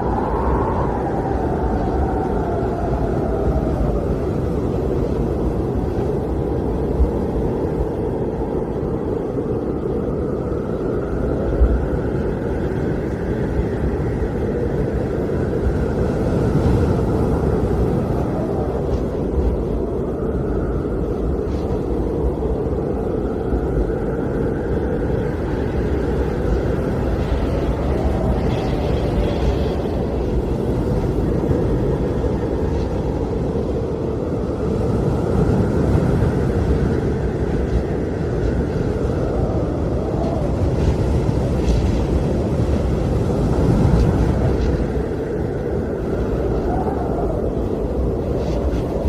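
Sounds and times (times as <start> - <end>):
deep wind rumble: 0.0 - 49.0
wind howling: 0.0 - 49.0.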